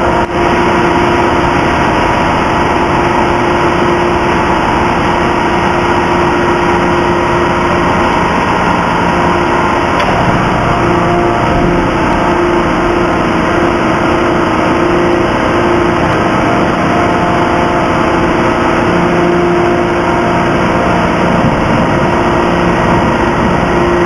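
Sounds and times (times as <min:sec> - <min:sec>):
forging press mechanical drone: 0:00.0 - 0:24.0
steady machine whine: 0:00.0 - 0:24.0.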